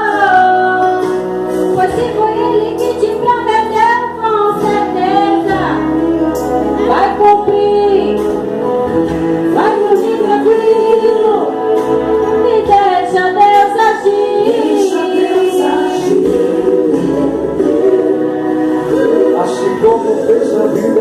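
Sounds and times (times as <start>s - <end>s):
gospel singing with accompaniment: 0.0s - 21.0s.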